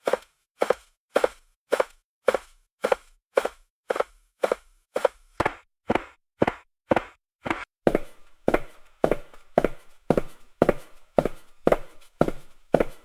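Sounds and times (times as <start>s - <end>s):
footsteps on metal gangway: 0.0s - 13.0s.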